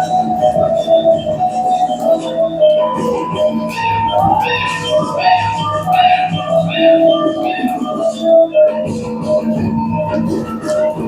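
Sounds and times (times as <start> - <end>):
held melody line: 0.0 - 10.9
repeated percussion strokes: 0.0 - 11.0.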